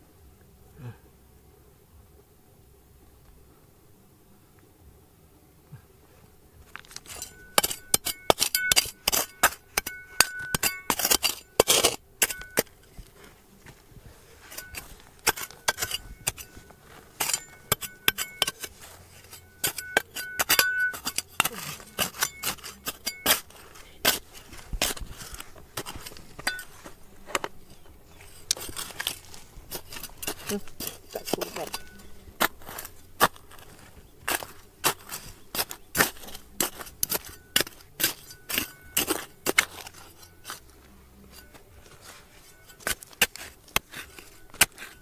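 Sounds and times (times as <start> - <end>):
metal tool striking stones: 6.7 - 12.9, 14.5 - 45.0.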